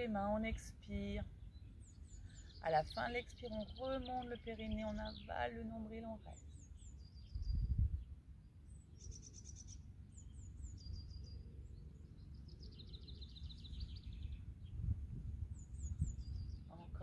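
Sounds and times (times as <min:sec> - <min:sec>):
songbirds chirping and trilling: 0:00.0 - 0:17.0
steady low rumble: 0:00.0 - 0:17.0.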